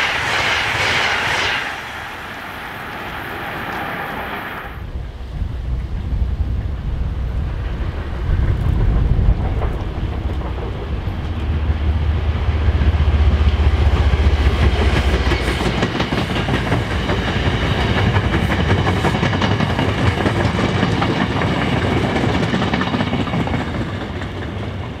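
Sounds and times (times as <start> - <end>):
train passing rumble: 0.0 - 25.0.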